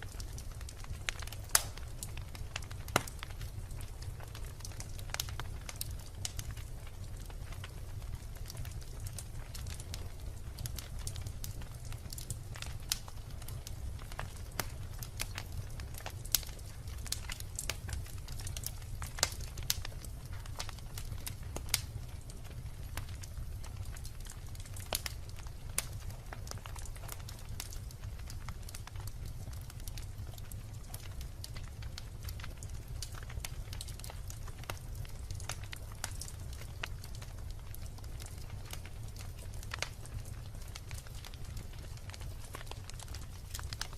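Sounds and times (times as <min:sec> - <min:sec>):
logs crackling in fireplace: 0:00.0 - 0:43.9
low rumble of flames: 0:00.0 - 0:43.9.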